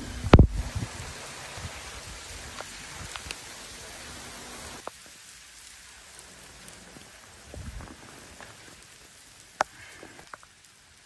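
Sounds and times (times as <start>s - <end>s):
hail pattering on paving: 0.0s - 11.0s
hailstones ticking: 0.0s - 11.0s.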